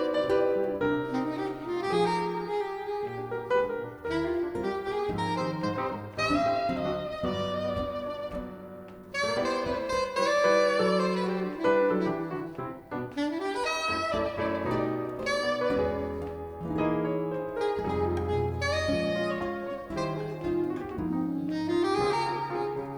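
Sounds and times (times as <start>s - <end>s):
piano accompaniment: 0.0s - 22.9s
soprano saxophone jazz line: 0.0s - 22.9s
walking bass notes: 0.0s - 22.9s.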